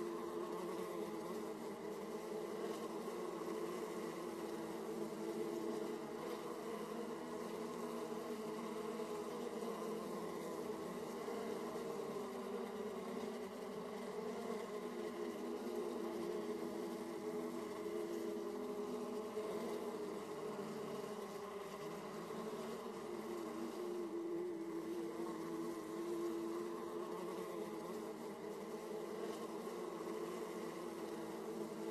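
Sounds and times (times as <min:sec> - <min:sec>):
bees flying past: 0:00.0 - 0:31.9
bees humming at hive: 0:00.0 - 0:31.9.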